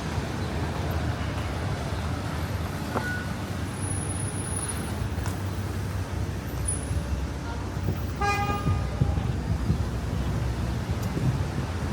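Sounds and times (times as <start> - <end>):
traffic rumble: 0.0 - 11.9.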